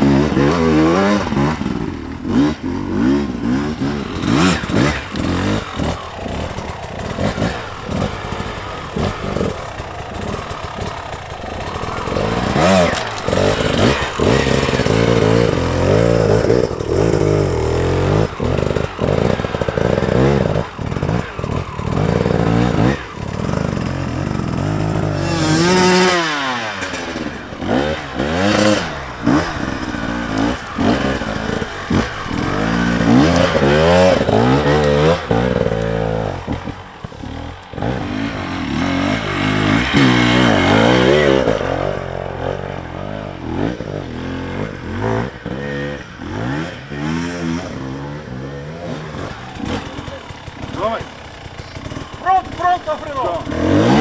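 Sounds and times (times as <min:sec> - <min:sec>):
bikes clattering over roots and rocks: 0:00.0 - 0:54.0
motorcycle engines revving: 0:00.0 - 0:54.0.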